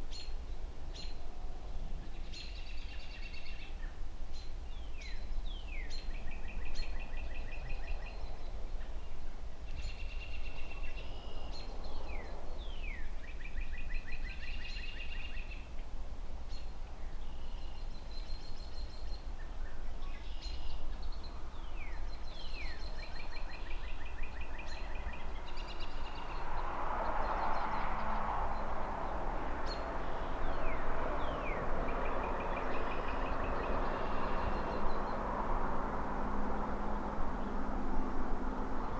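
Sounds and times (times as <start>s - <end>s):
distant city traffic rumble: 0.0s - 38.9s
songbird singing: 0.0s - 38.9s.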